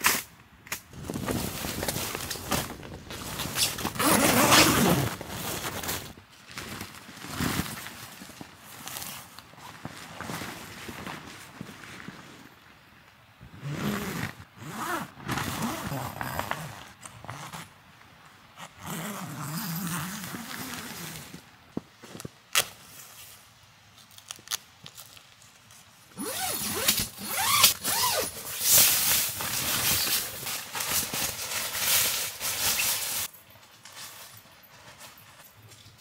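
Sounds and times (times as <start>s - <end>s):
tent fabric rustling and scraping: 0.9s - 24.1s, 24.9s - 36.0s.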